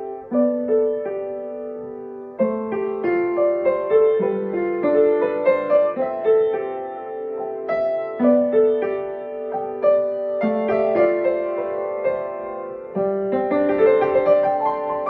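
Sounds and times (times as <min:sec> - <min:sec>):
upright piano melody: 0:00.0 - 0:15.0.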